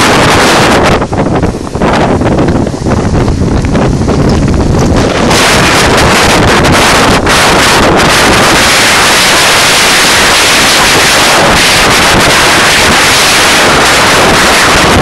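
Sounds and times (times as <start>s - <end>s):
surf breaking on rocks: 0.0s - 15.0s
wind blasting microphone: 0.0s - 15.0s.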